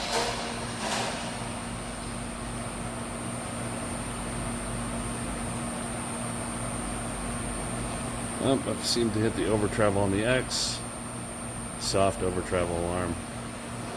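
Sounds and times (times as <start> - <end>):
grinder machine hum with whine: 0.0 - 13.9.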